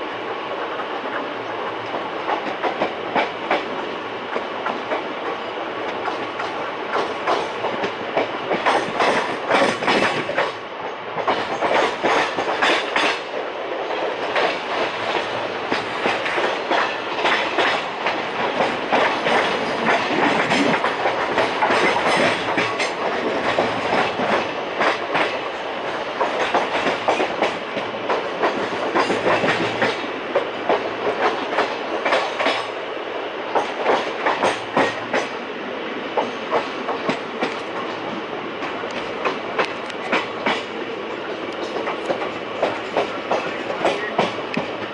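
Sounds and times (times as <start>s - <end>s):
train wheels clattering over rail joints: 0.7s - 32.9s, 33.5s - 35.4s, 36.0s - 44.9s.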